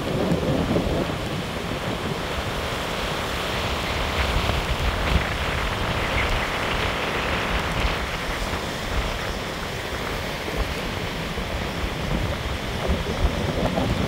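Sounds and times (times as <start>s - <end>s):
surf breaking around pier: 0.0s - 14.0s
wind gusting on microphone: 0.0s - 14.0s.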